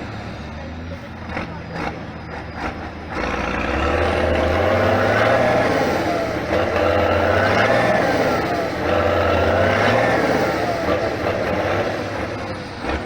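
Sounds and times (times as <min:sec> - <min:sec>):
engine whine: 0:00.0 - 0:13.0
truck engine under load: 0:00.0 - 0:13.0.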